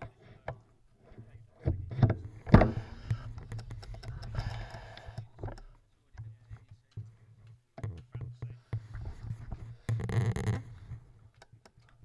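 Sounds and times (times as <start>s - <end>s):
small irregular clicks: 2.1s - 12.0s.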